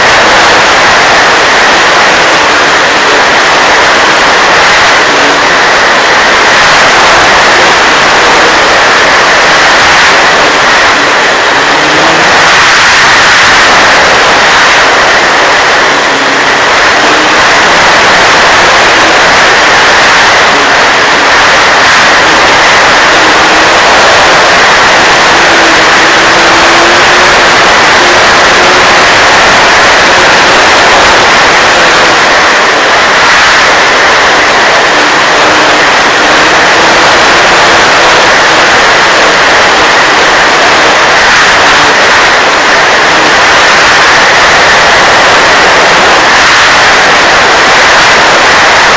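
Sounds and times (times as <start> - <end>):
model plane motor and propeller: 0.0 - 48.9.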